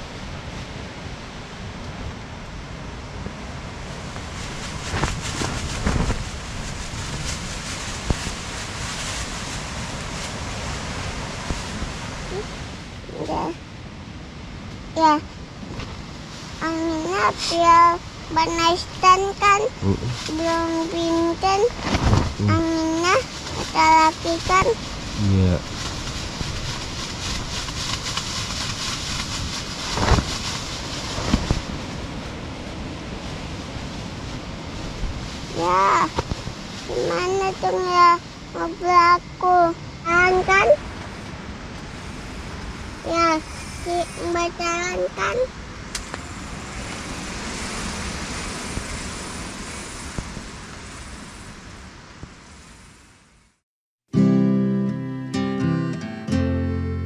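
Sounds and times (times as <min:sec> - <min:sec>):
storm wind gusting: 0:00.0 - 0:53.6
tent fabric rustling and flapping: 0:03.3 - 0:13.5, 0:15.0 - 0:53.1.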